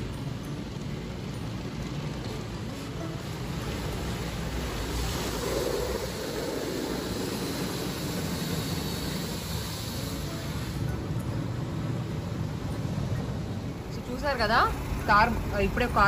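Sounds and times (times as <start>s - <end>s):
water jets spraying on car: 0.0s - 16.0s.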